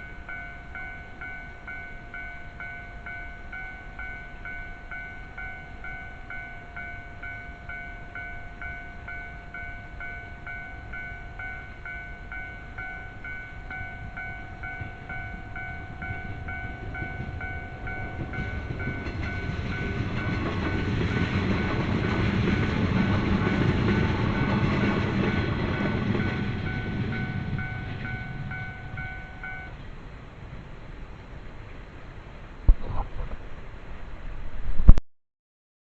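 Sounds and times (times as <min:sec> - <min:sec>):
level crossing warning bell: 0:00.0 - 0:29.8
train passing: 0:00.0 - 0:32.7.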